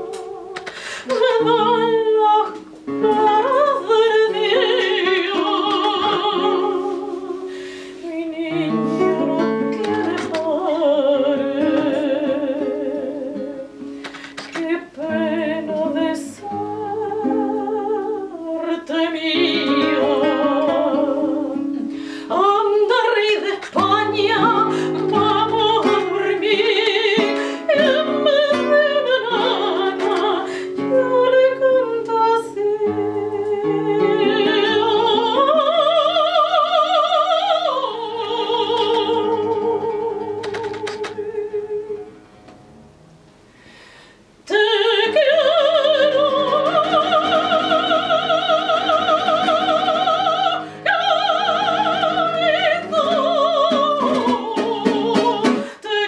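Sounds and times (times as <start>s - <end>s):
operatic woman singing: 0.0s - 13.8s, 14.4s - 42.1s, 44.5s - 56.0s
classical guitar plucking: 0.0s - 43.5s, 44.4s - 56.0s.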